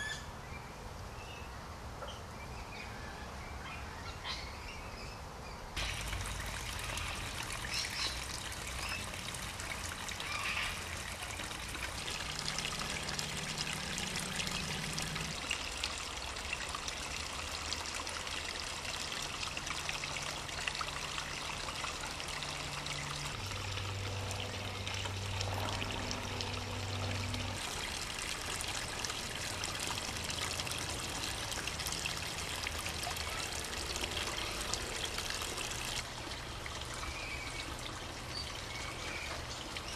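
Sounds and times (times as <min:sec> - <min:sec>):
waterfall splashing into pond: 0:05.8 - 0:39.9.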